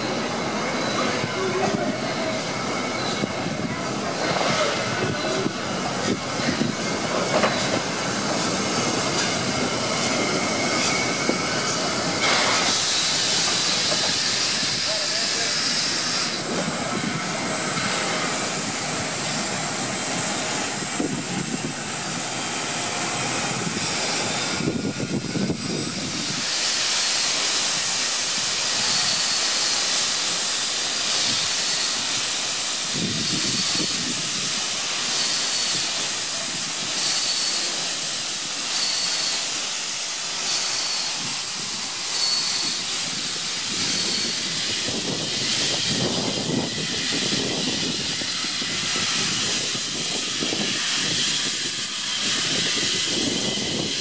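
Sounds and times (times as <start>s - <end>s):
steam locomotives hissing: 0.0s - 54.0s.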